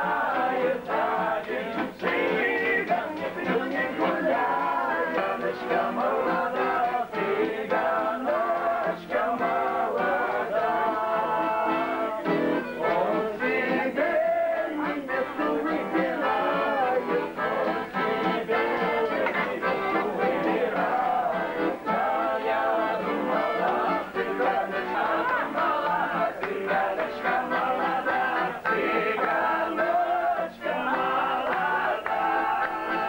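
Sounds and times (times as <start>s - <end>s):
men singing together: 0.0s - 33.0s.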